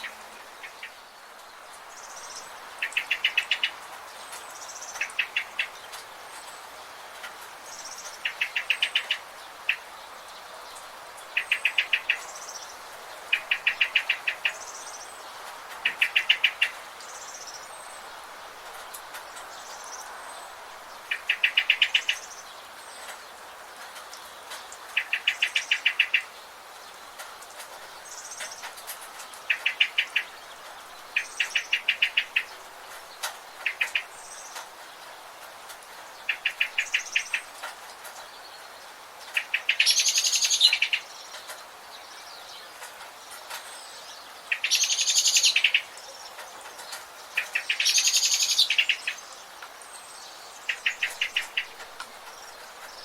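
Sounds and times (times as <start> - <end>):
steady background hiss: 0.0 - 53.0.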